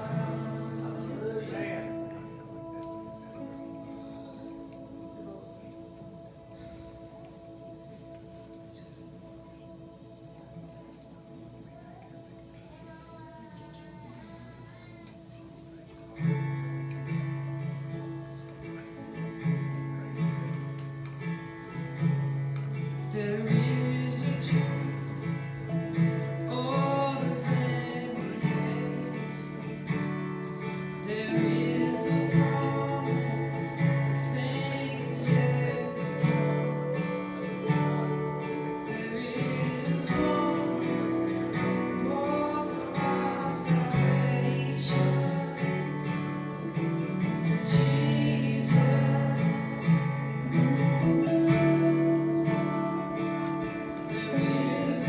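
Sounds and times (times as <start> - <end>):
strummed acoustic guitar: 0.0 - 11.6, 14.6 - 55.0
worship music: 0.0 - 55.0.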